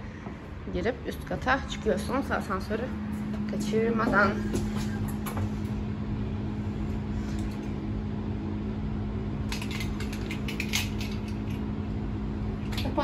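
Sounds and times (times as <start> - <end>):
lift humming and rumbling: 0.0 - 13.0.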